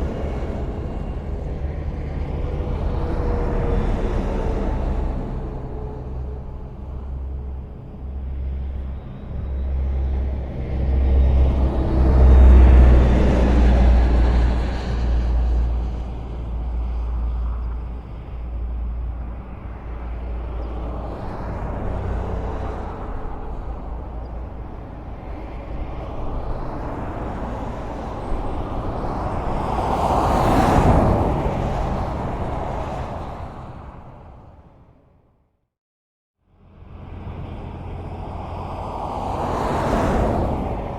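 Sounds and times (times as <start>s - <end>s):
deep engine drone: 0.0s - 29.8s, 36.4s - 40.9s
highway traffic rumble: 0.0s - 35.4s, 36.4s - 40.9s.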